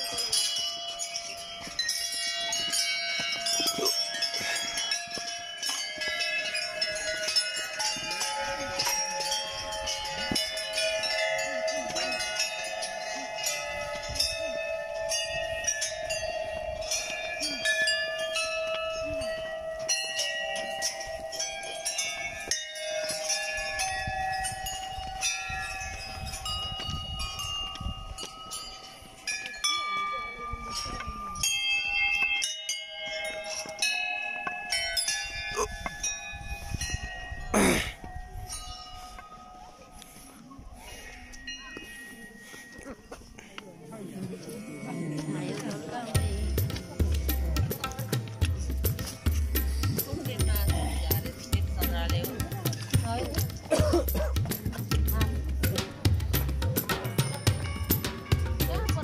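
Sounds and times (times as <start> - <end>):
temple bells ringing: 0.0 - 59.0.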